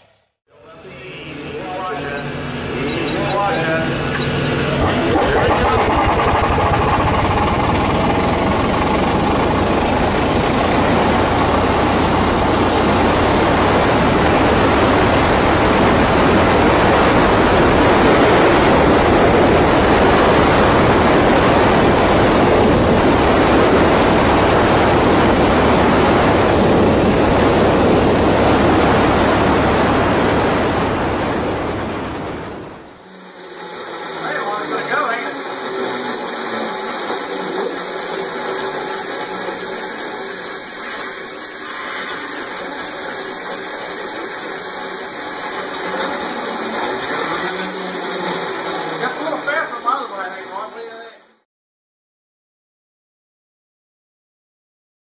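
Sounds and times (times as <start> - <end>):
wind and road noise rushing: 2.0 - 50.6.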